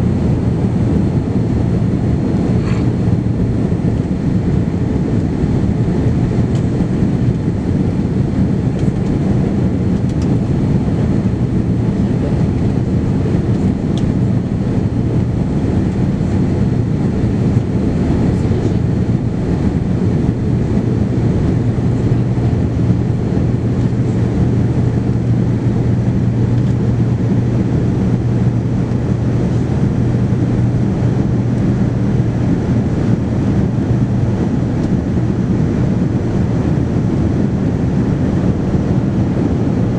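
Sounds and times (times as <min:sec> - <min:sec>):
aircraft engine drone: 0:00.0 - 0:39.9
low hum: 0:00.0 - 0:39.9
rushing airflow: 0:00.0 - 0:39.9.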